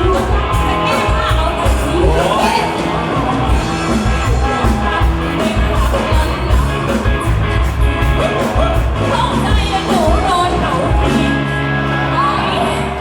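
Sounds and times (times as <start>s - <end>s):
guitar: 0.0s - 13.0s
live rock pop band: 0.0s - 13.0s
person singing: 0.0s - 13.0s.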